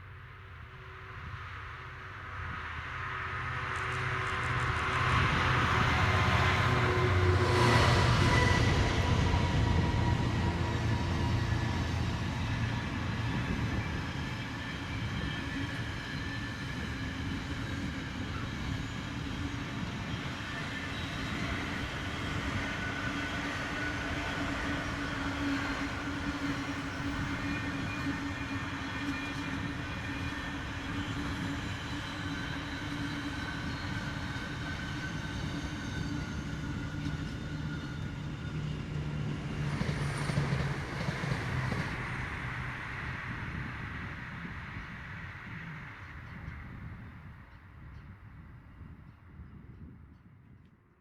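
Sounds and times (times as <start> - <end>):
train rumbling past: 0.2 - 50.0.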